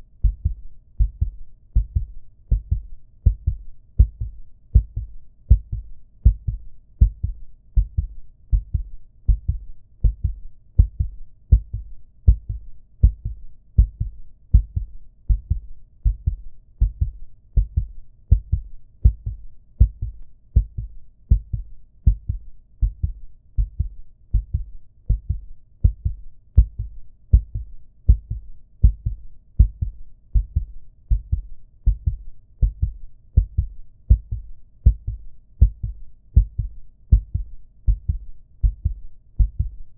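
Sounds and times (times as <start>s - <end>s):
heartbeat double thump: 0.2s - 39.8s.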